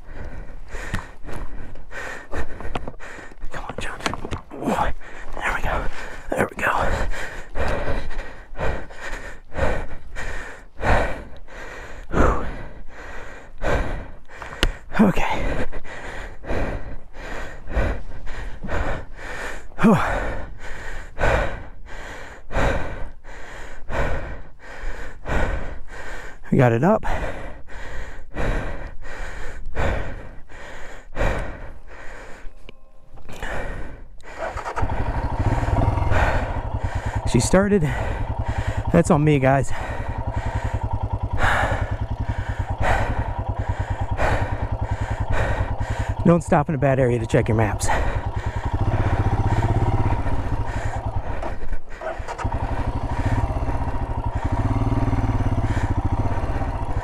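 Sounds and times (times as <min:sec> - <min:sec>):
man panting hard: 0:00.0 - 0:57.0
person breathing heavily and gasping: 0:00.0 - 0:57.0
motorcycle engine starting and idling: 0:00.1 - 0:21.8, 0:32.3 - 0:57.0.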